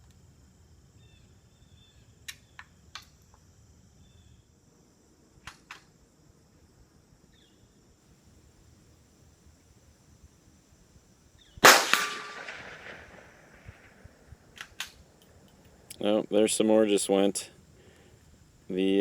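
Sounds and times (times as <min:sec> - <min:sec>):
high insect hum: 0:00.0 - 0:19.0.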